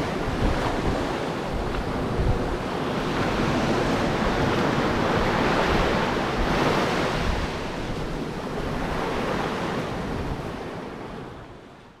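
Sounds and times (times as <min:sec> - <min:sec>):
ocean surf washing onto beach: 0:00.0 - 0:12.0
wind on microphone: 0:00.0 - 0:12.0.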